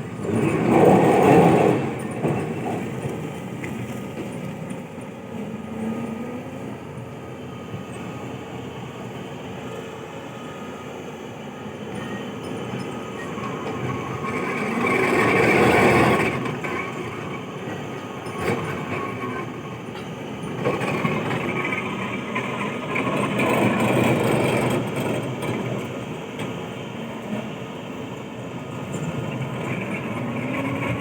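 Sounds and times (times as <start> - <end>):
heavy machinery rumbling and grinding: 0.0 - 10.9, 11.6 - 31.0.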